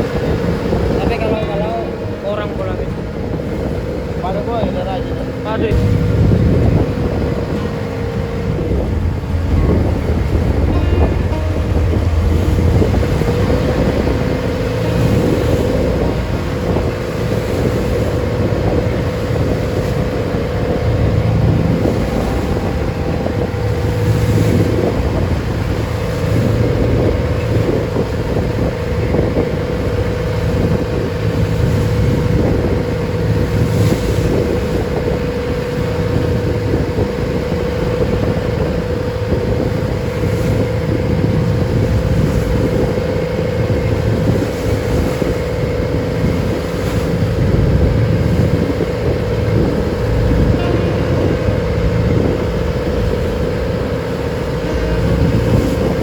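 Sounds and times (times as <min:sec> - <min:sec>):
boat engine droning: 0:00.0 - 0:56.0
wind buffeting microphone: 0:00.0 - 0:56.0.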